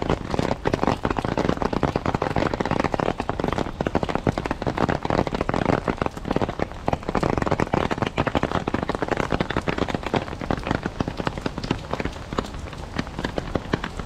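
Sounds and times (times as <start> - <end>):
rain drops tapping plastic umbrella: 0.0 - 14.0
rain hissing on wet pavement: 0.0 - 14.0.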